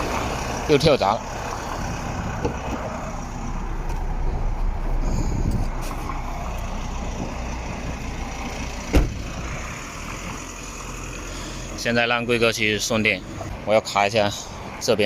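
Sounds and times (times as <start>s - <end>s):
low traffic rumble: 0.0s - 15.0s
vehicle passing: 0.0s - 15.0s.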